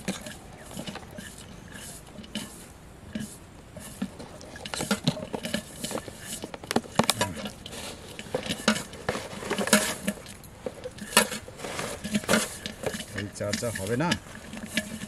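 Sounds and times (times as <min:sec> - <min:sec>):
clicking and clinking of pots: 0:00.0 - 0:15.0
plastic bag rustling: 0:00.0 - 0:15.0.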